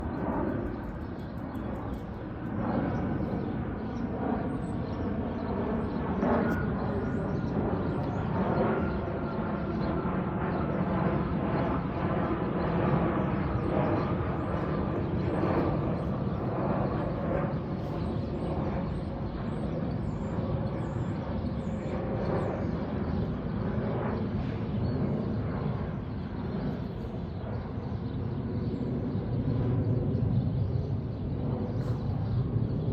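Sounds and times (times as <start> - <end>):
jet engine drone: 0.0 - 32.9.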